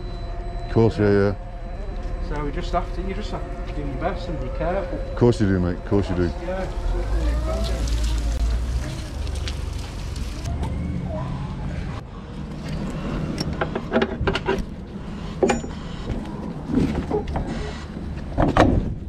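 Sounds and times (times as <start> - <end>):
vehicle engine rumble: 1.8 - 19.0.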